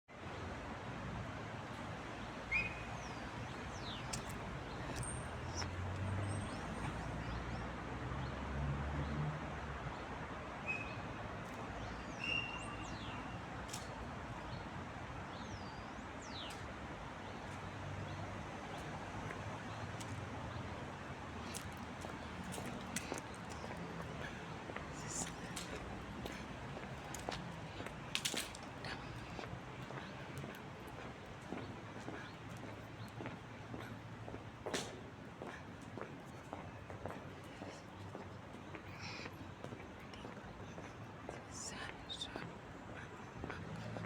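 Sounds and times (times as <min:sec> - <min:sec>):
small birds chirping: 0:01.7 - 0:08.3, 0:10.6 - 0:44.0.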